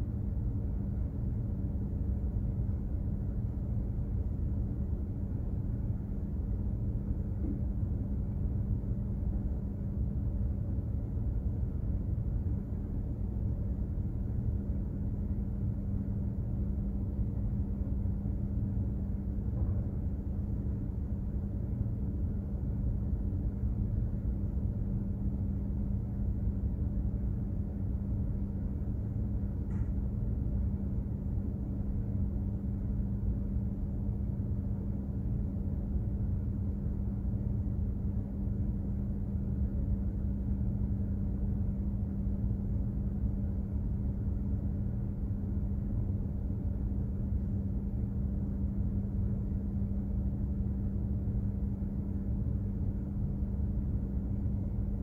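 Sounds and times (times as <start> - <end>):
ship engine droning hum: 0.0 - 55.0.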